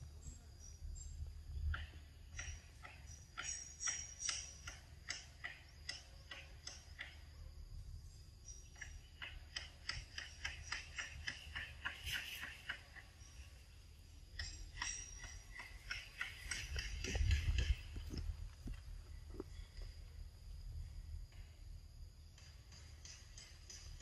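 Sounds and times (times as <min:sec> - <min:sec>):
faint insect chirps: 0:00.0 - 0:24.0.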